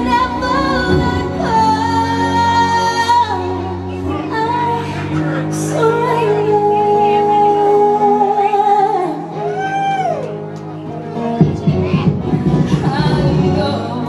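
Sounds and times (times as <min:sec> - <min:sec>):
woman singing into microphone: 0:00.0 - 0:10.4, 0:11.9 - 0:14.0
backing music: 0:00.0 - 0:14.0.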